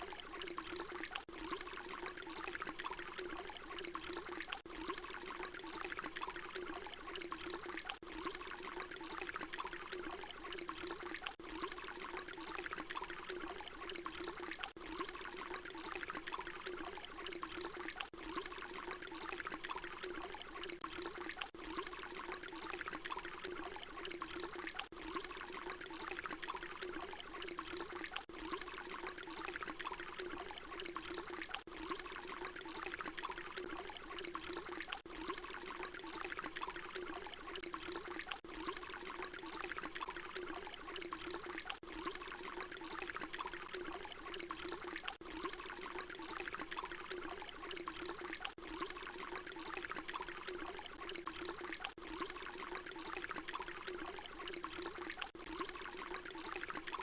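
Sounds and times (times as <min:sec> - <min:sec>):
water pouring: 0:00.0 - 0:57.0.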